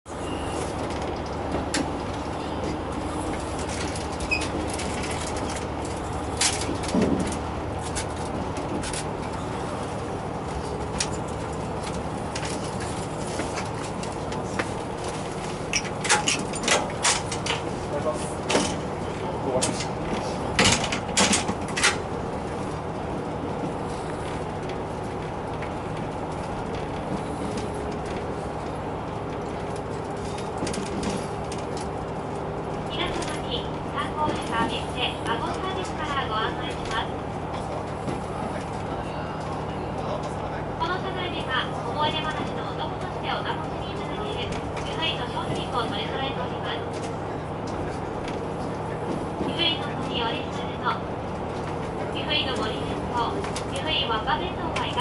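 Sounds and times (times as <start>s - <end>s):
train rumbling: 0.1s - 55.0s.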